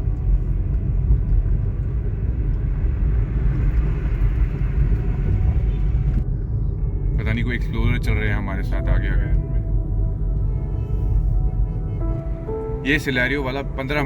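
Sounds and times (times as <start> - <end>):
vehicle road and wind rumble: 0.0 - 14.0.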